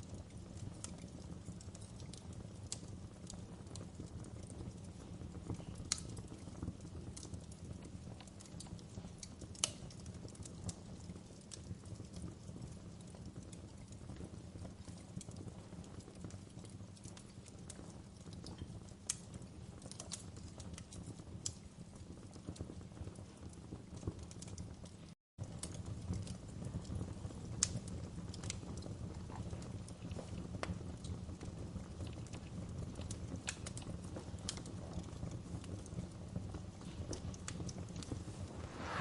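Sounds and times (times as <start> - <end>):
burning logs crackling and popping: 0.0 - 39.0
flames rumbling: 0.0 - 39.0.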